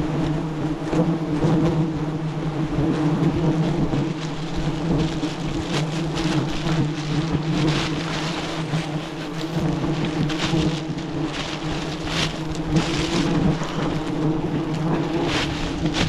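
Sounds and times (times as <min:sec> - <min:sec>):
bees buzzing: 0:00.3 - 0:16.0
crackling rustles: 0:02.8 - 0:16.0.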